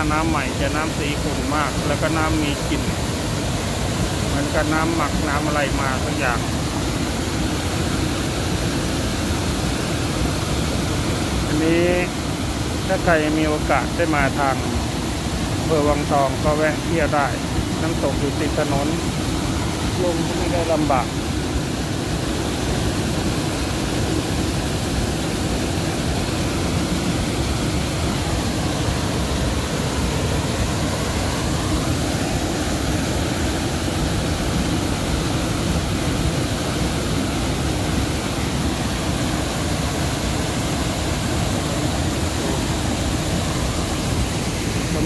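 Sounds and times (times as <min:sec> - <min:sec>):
waterfall rushing over rocks: 0:00.0 - 0:45.0.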